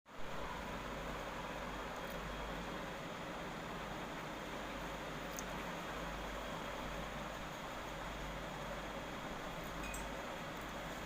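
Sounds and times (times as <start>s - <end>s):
steady background hiss: 0.1s - 11.0s.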